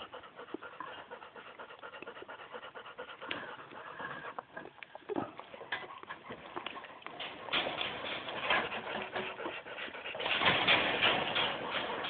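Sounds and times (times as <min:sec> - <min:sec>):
dogs panting: 0:00.0 - 0:12.0.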